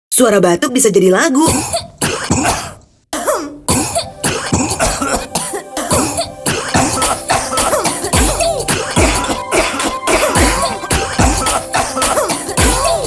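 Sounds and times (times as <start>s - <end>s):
rhythmic beat made of coughs: 1.4s - 13.0s.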